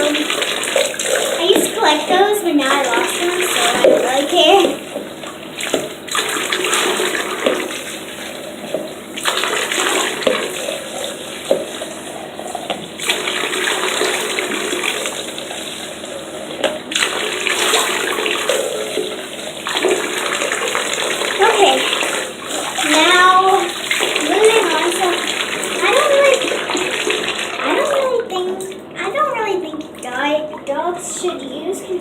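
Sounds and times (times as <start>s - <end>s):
water running from bathtub tap: 0.0s - 32.0s
water splashing in tub: 0.0s - 32.0s.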